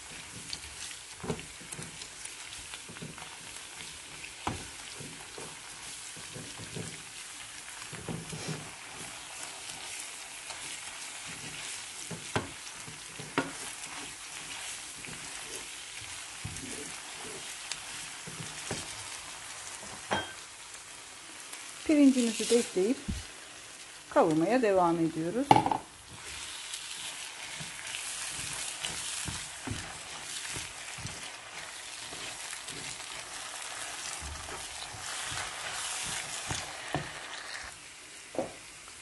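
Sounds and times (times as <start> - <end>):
wooden spoon scraping a pan: 0.0 - 20.1, 21.9 - 23.4, 25.2 - 37.8
onions sizzling in oil: 0.0 - 39.0.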